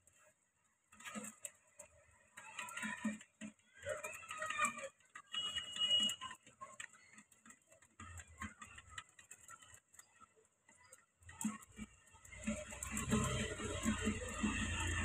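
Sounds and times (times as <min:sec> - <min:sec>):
pigeons pecking seed: 0:01.0 - 0:15.0.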